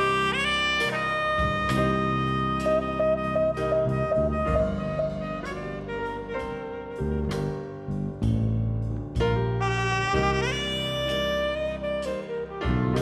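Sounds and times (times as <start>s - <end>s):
jazz band playing: 0.0s - 13.0s
saxophone: 0.0s - 13.0s.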